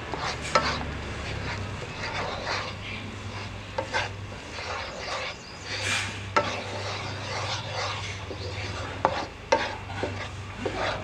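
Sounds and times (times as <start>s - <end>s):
wooden spatula scraping frying pan: 0.0s - 11.0s.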